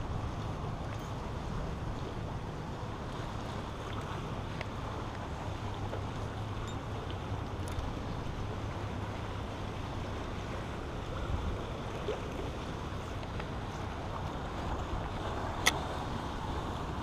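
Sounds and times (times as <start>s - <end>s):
water noise: 0.0s - 17.0s
wind: 0.0s - 17.0s.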